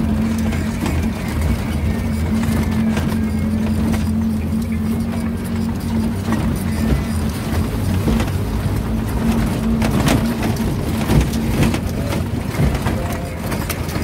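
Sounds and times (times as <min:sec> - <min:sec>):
knocks and rattles in cab: 0:00.0 - 0:14.0
vehicle engine running: 0:00.0 - 0:14.0.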